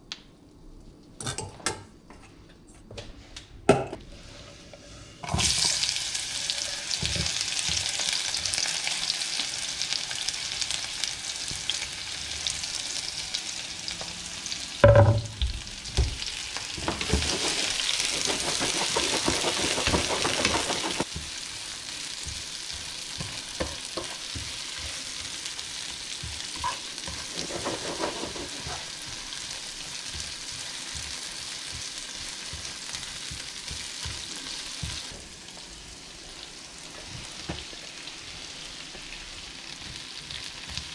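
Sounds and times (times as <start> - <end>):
onions sizzling in oil: 4.1 - 40.9.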